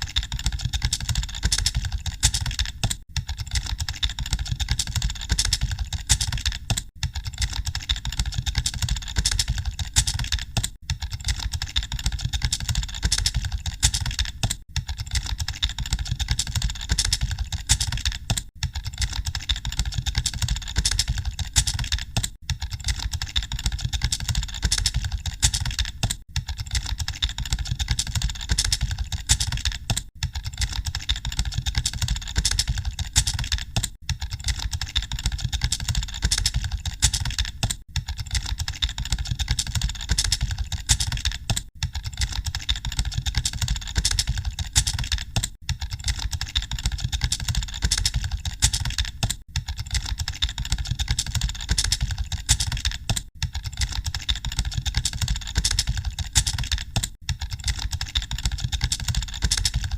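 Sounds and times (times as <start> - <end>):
fast typing on computer keyboard: 0.0 - 59.9.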